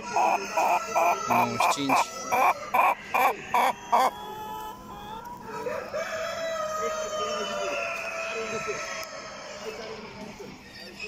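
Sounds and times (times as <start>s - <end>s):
chicken clucking: 0.0s - 8.9s.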